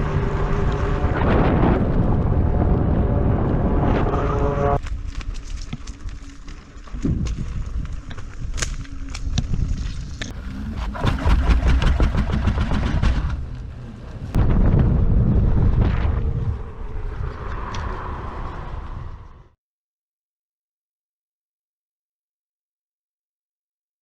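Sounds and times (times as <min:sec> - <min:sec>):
wind buffeting the microphone: 0:00.0 - 0:19.5.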